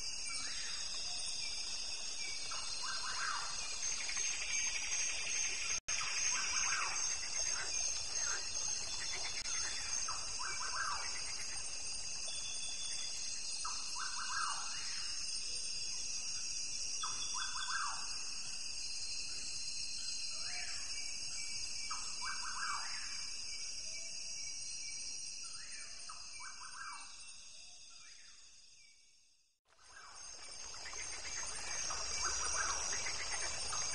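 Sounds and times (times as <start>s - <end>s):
high insect drone: 0.0s - 27.4s, 29.8s - 33.9s.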